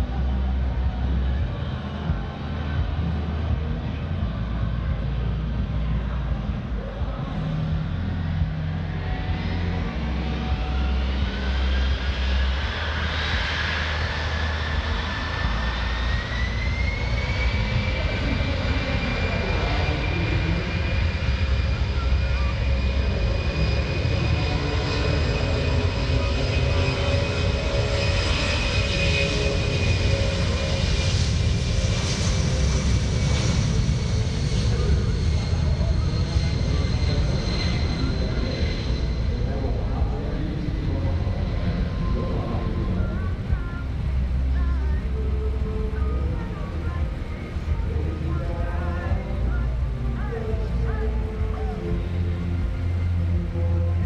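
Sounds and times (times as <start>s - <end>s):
jet engines roaring on takeoff: 0.0s - 54.0s.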